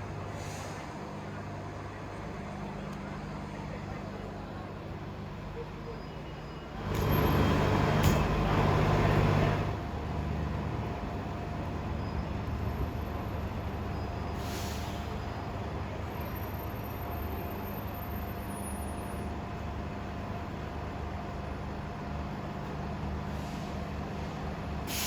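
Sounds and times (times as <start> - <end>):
bus engine humming: 0.0 - 25.0.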